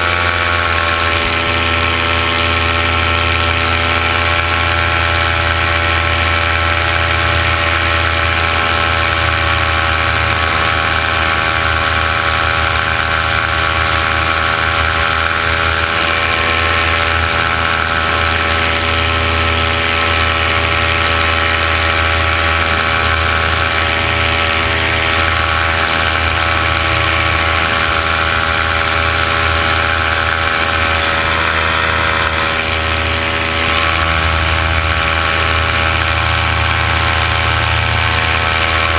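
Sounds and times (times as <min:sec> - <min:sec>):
aircraft motors and propellers humming: 0:00.0 - 0:38.9.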